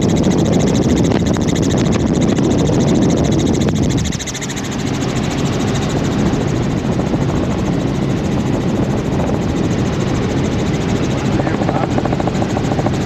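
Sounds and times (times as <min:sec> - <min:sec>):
helicopter turbine and rotor drone: 0:00.0 - 0:13.0.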